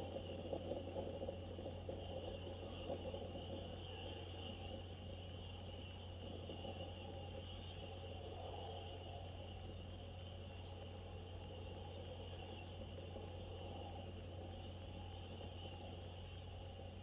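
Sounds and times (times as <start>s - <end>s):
faint outdoor background noise: 0.0s - 17.0s
high-pitched hiss: 0.0s - 17.0s
low electrical hum: 0.0s - 17.0s.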